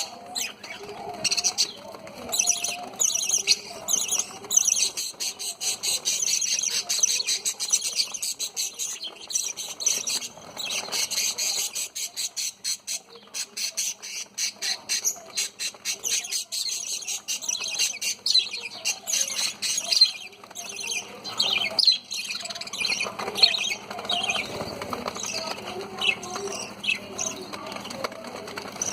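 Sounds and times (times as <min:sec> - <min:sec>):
budgerigars chattering and warbling: 0:00.0 - 0:28.9.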